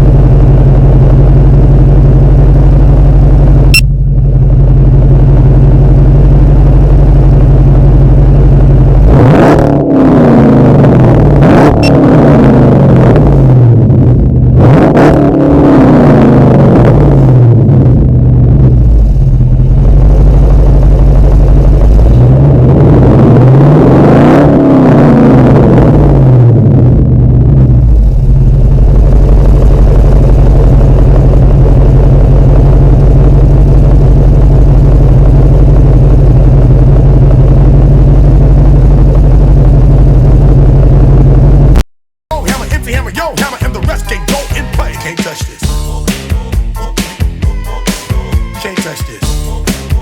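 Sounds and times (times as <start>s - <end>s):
car engine revving and idling: 0.0s - 50.0s.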